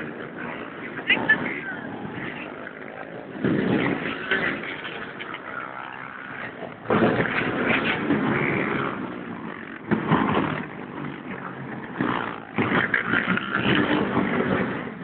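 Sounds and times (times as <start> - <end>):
dirt bike engines passing: 0.0 - 15.0.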